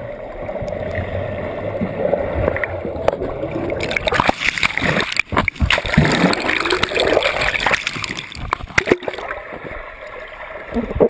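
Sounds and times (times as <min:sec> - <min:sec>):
water splashing and churning: 0:00.0 - 0:11.0.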